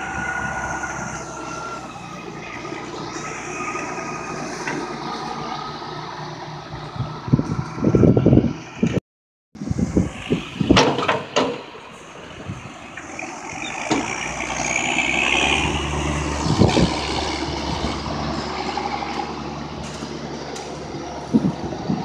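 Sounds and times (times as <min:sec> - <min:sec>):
tractor diesel engine running: 0:00.0 - 0:09.0, 0:09.6 - 0:22.0.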